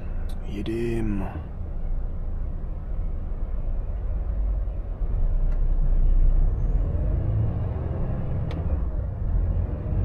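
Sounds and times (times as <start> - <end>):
diesel truck engine rumble: 0.0 - 10.0.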